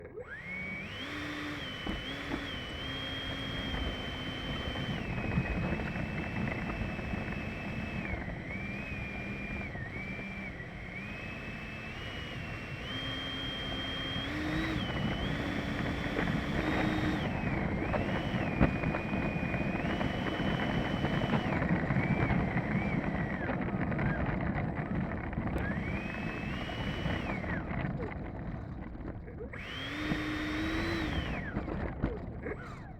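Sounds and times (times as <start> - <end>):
electric ducted fan whining: 0.0 - 32.9.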